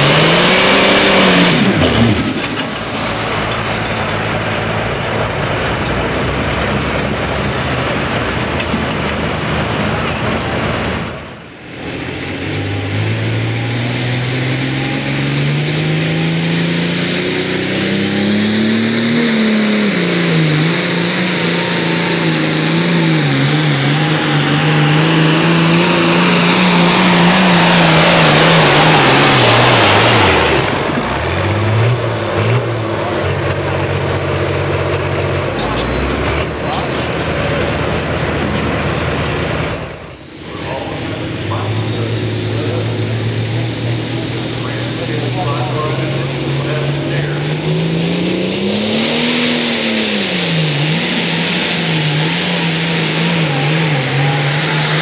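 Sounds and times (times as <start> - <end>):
diesel tractor engine at full throttle: 0.0 - 55.0.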